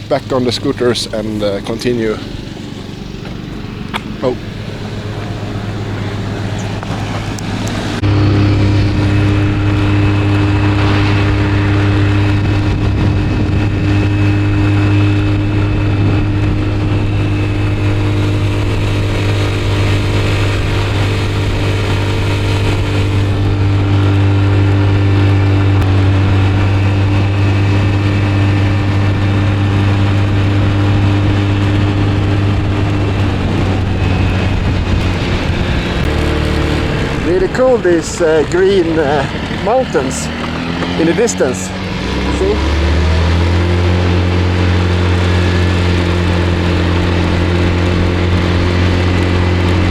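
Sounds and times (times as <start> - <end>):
motor scooter engine running: 0.0 - 49.9
road and wind noise: 0.0 - 49.9.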